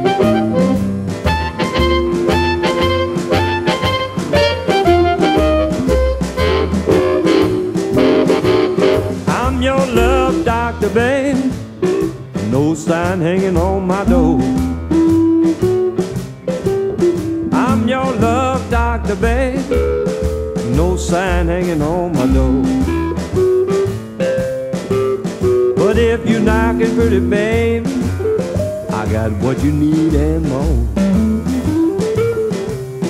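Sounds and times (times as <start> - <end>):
electric blues song: 0.0 - 33.0.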